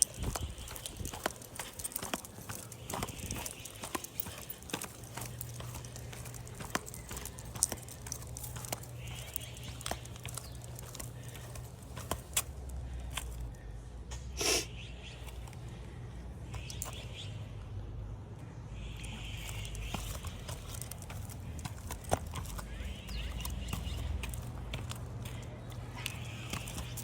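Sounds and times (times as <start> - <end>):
footsteps on a walk: 0.0 - 13.6, 18.8 - 27.0.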